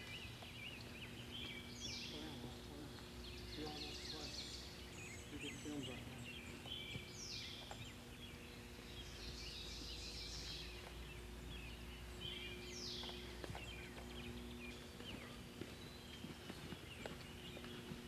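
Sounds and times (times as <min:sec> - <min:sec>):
faint low hum: 0:00.0 - 0:18.0
songbirds singing: 0:00.0 - 0:18.0.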